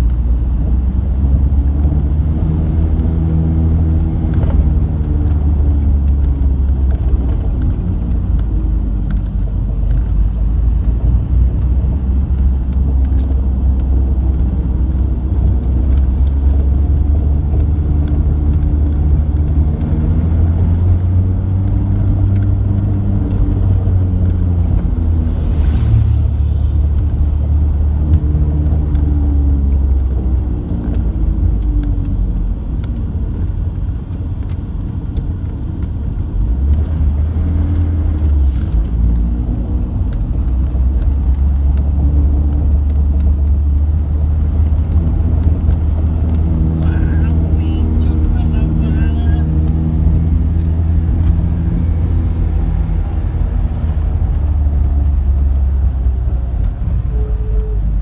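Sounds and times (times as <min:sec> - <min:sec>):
road noise: 0:00.0 - 0:58.0
vehicle engine rumble: 0:00.0 - 0:58.0.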